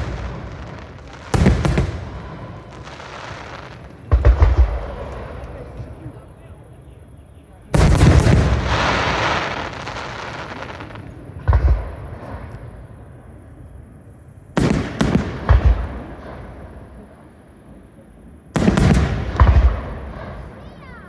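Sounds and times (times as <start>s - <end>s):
fireworks bursting with loud bangs: 0.0s - 17.4s, 18.5s - 21.0s.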